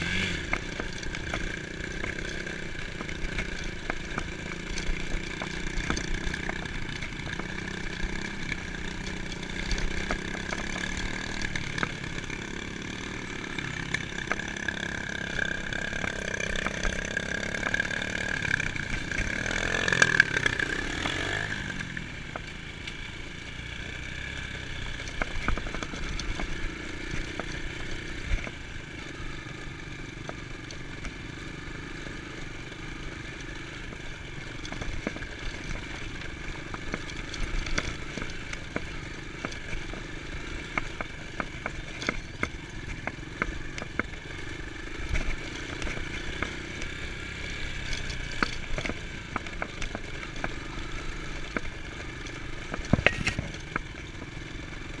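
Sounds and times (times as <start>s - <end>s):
bike rattling over bumps: 0.0s - 55.0s
dirt bike engine running: 0.0s - 55.0s.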